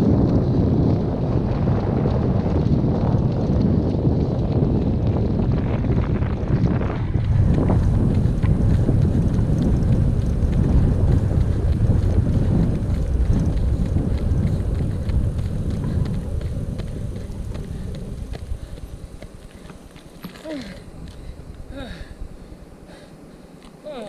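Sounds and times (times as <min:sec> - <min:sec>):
quick footfalls on track: 0:00.0 - 0:21.6
wind buffeting microphone: 0:00.0 - 0:24.0.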